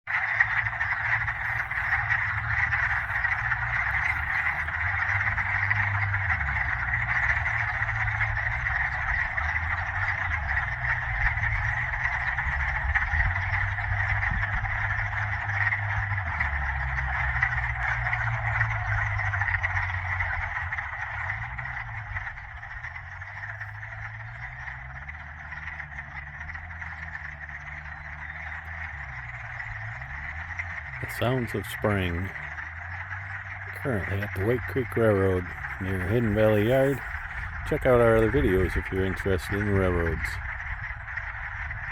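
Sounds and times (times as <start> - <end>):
frogs trilling chorus: 0.1 - 41.9
low rumble: 0.1 - 41.9.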